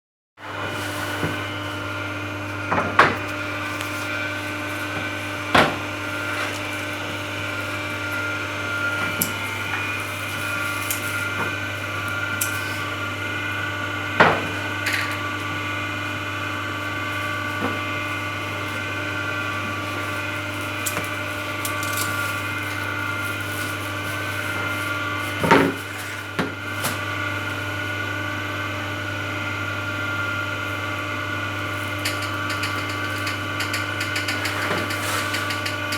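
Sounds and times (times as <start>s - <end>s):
hydraulic press motor hum: 0.5s - 35.9s.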